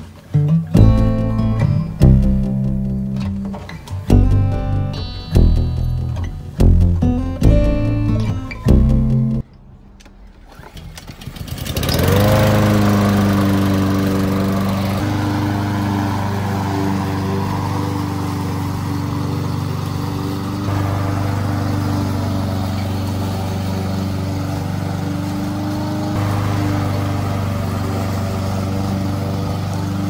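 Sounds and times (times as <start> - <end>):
lawn mower engine starting: 0.0 - 30.0.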